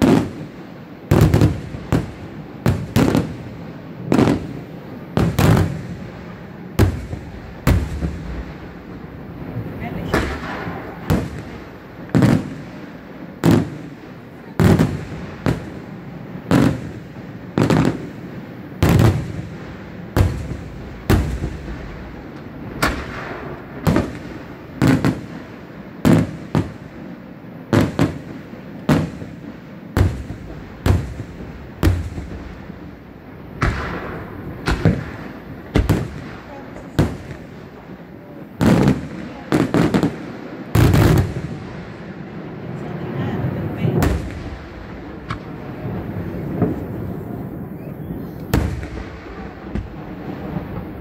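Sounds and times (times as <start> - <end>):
firework bangs with echo: 0.0 - 51.0.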